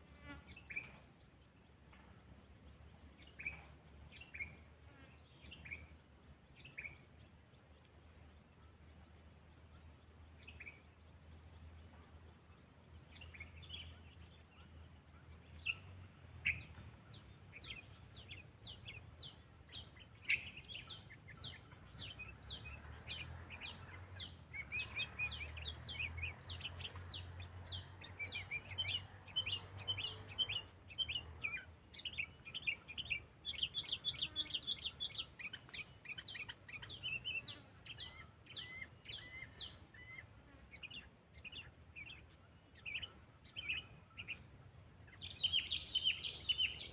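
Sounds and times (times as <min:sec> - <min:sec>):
bird chirping: 0:00.2 - 0:46.9.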